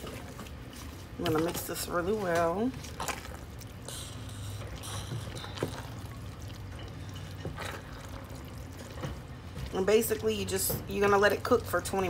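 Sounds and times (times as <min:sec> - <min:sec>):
spatula stirring thick mixture: 0:00.0 - 0:12.0
steady low hum: 0:00.0 - 0:12.0.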